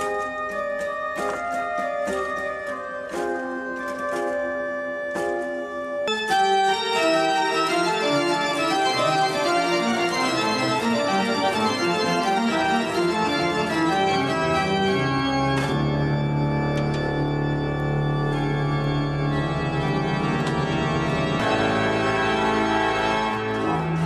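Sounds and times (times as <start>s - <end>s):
pipe organ playing: 0.0s - 24.0s.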